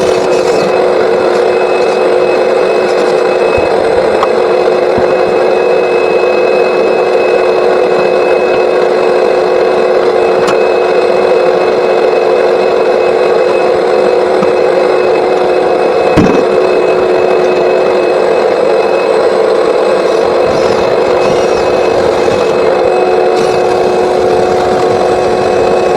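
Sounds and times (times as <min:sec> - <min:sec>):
vacuum running: 0:00.0 - 0:25.9.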